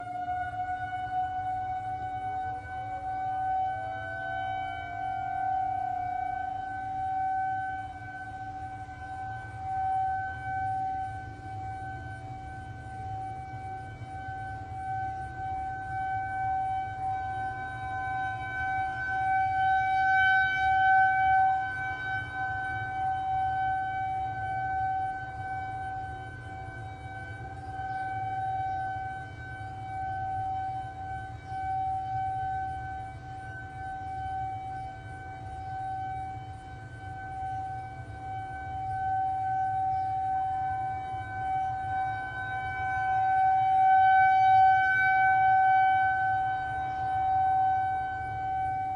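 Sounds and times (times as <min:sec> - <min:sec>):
rotating warning siren: 0:00.0 - 0:48.9.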